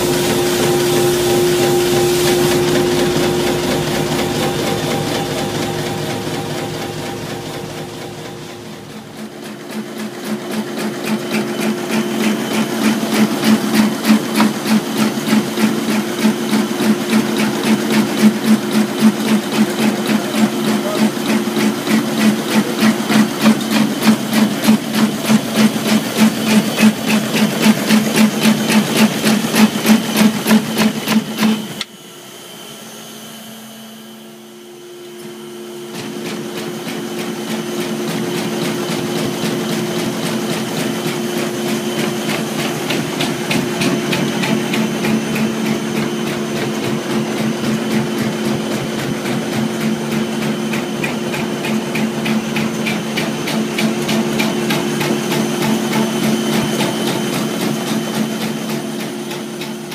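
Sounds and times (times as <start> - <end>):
machine clattering: 0.0 - 31.8, 36.0 - 59.9
machine hum: 0.0 - 59.9.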